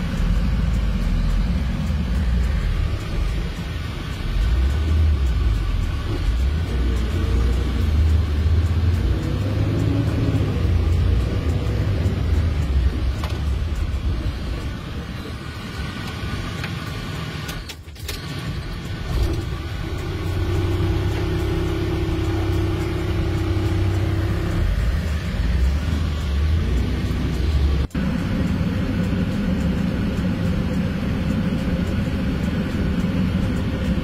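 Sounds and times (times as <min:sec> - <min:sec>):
steady drone: 0:00.0 - 0:17.6, 0:18.3 - 0:34.0
truck engine rumble from cab: 0:00.0 - 0:34.0.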